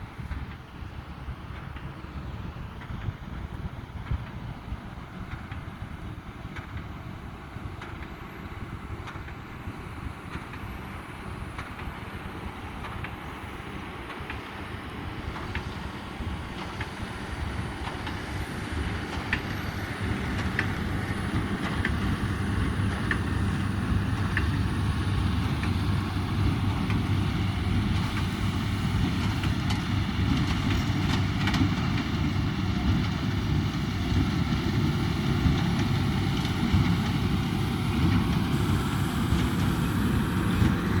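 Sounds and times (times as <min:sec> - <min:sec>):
tractor engine running under load: 0:00.0 - 0:41.0.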